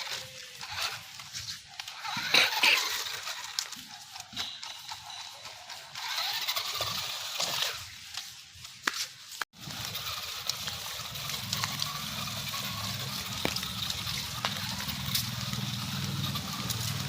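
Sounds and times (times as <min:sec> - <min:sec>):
toy truck electric motor whirring: 0:00.0 - 0:08.6, 0:09.5 - 0:17.0.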